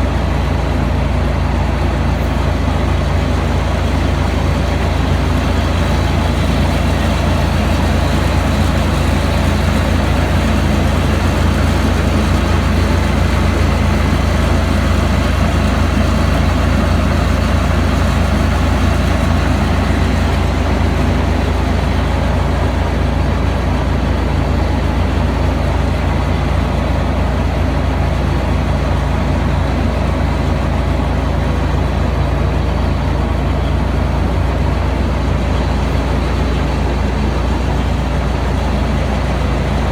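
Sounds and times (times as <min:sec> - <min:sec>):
diesel engine deep drone: 0:00.0 - 0:39.9.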